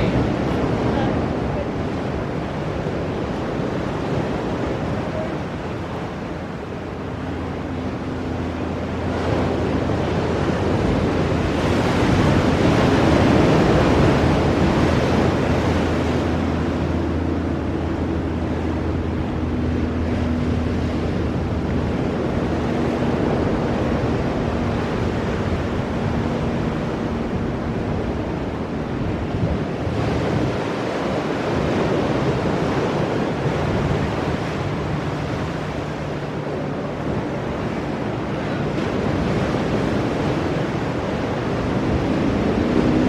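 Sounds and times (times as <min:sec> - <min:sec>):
waves breaking on rocks: 0:00.0 - 0:43.0.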